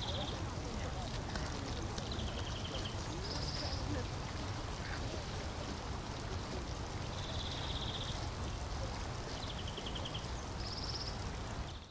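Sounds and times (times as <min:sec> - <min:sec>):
outdoor background noise: 0:00.0 - 0:11.9.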